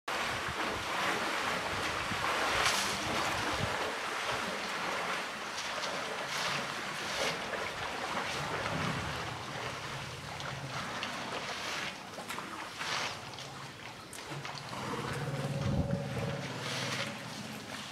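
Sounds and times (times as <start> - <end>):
elephants splashing in water: 0.1 - 17.9.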